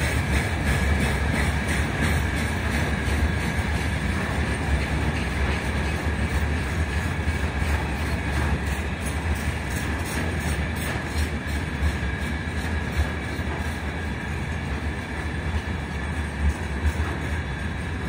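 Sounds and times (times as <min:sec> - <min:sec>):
train wheels running on rails: 0:00.0 - 0:18.0.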